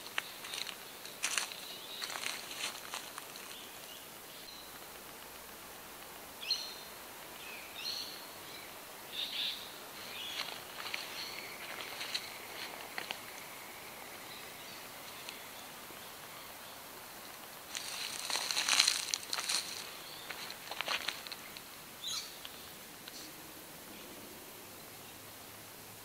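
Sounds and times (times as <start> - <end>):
birds calling: 0.0 - 25.2
faint outdoor background: 0.0 - 26.0.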